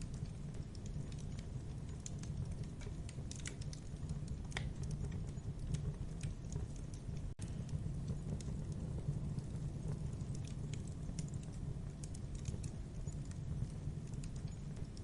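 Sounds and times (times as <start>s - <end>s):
flames rumbling: 0.0s - 15.0s
wood crackling and popping: 0.0s - 15.0s.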